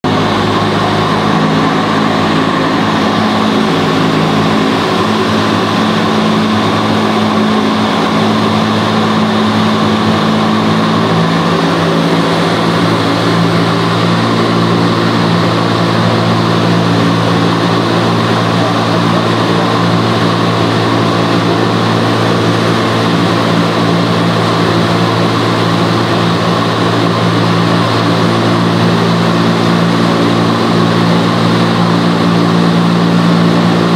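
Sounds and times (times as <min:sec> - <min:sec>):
loud rush of air: 0:00.0 - 0:33.9
low fan hum: 0:00.0 - 0:33.9.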